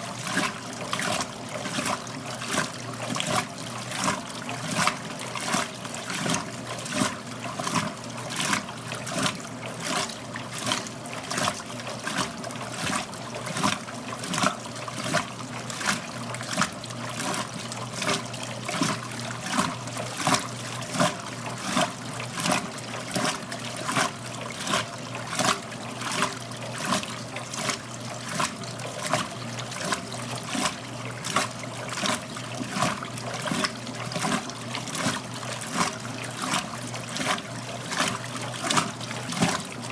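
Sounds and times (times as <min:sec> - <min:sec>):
laundry splashing in washing drum: 0:00.0 - 0:39.9.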